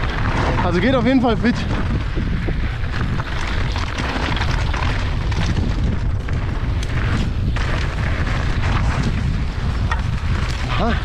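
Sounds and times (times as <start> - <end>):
bike clattering: 0.0 - 11.0
tyres rolling over gravel: 0.0 - 11.0
wind buffeting microphone: 0.0 - 11.0.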